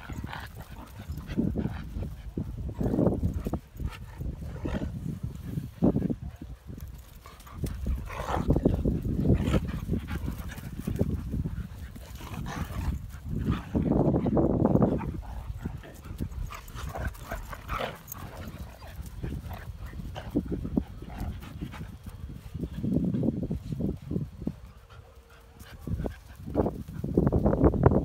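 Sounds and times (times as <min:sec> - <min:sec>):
dogs growling and barking while playing: 0:00.0 - 0:27.3.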